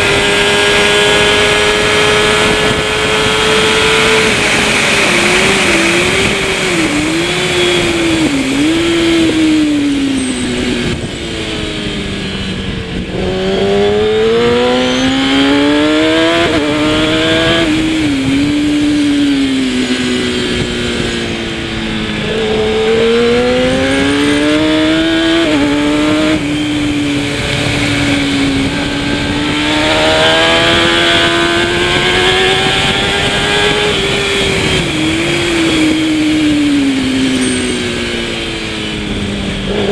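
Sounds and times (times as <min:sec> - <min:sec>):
motorbike engine revving: 0:00.0 - 0:39.9
wind noise: 0:00.0 - 0:39.9.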